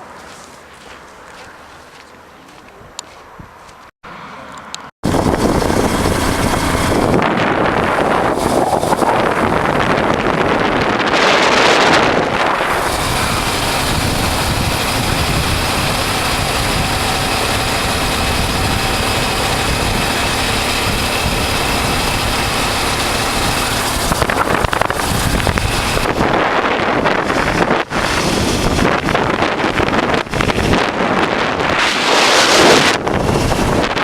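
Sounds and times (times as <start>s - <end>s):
road noise: 0.0s - 34.0s
wind buffeting microphone: 2.7s - 3.9s, 5.0s - 34.0s
motorcycle engine running: 5.0s - 34.0s.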